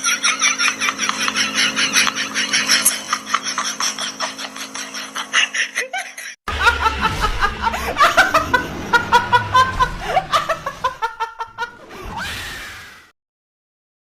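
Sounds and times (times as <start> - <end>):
people laughing: 0.0 - 11.9.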